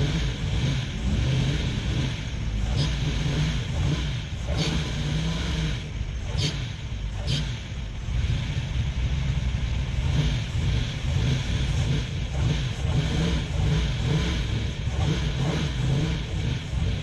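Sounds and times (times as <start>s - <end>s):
car engine rumbling at low revs: 0.0s - 17.0s.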